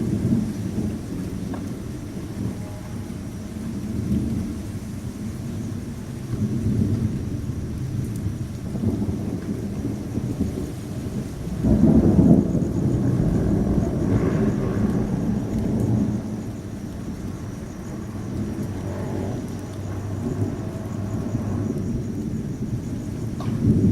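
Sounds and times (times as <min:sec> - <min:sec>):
rolling thunder: 0:00.0 - 0:23.9
steady rain: 0:00.0 - 0:23.9.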